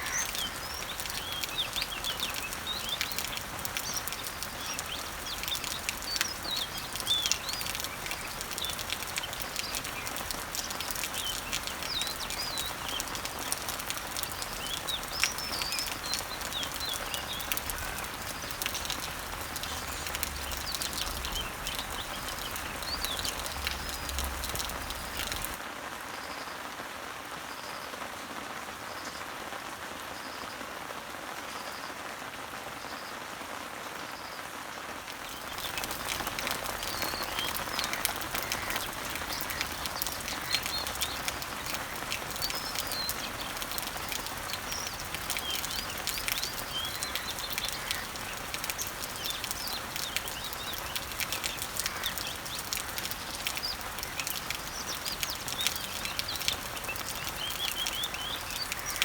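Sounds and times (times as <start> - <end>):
birds chirping: 0.0 - 25.6, 35.1 - 59.0
rain pattering on leaves: 0.0 - 59.0
soft rain hiss: 0.0 - 59.0.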